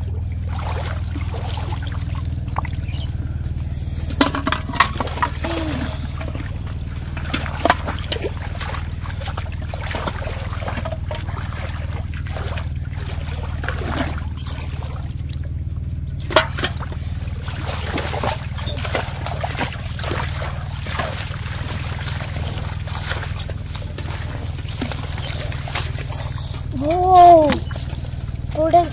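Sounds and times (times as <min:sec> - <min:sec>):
steady low hum: 0:00.0 - 0:28.9
water trickling and splashing: 0:00.0 - 0:28.9.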